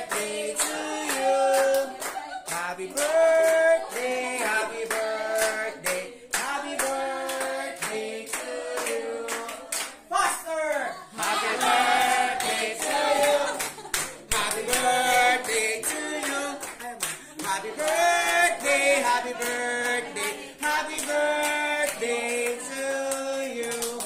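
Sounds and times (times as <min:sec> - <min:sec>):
hand clapping: 0:00.0 - 0:10.0, 0:10.6 - 0:24.0
group of people singing: 0:00.0 - 0:10.1, 0:10.9 - 0:24.0.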